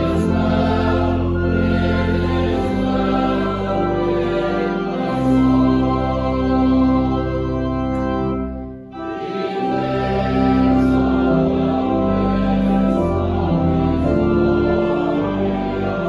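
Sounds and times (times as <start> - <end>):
church organ playing chords: 0.0 - 16.0
congregation singing: 0.0 - 16.0.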